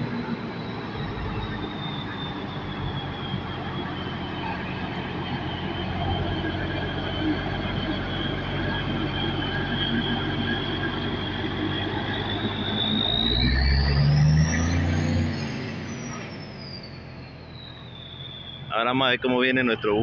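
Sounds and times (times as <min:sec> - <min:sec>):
bus diesel engine passing: 0:00.0 - 0:20.0
high whine: 0:00.0 - 0:20.0.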